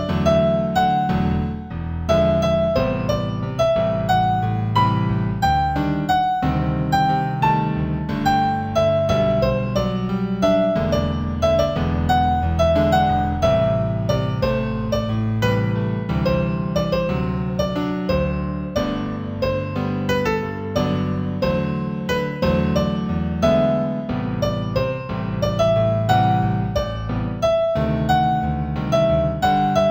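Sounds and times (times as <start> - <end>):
new-age piano music: 0.0 - 29.9.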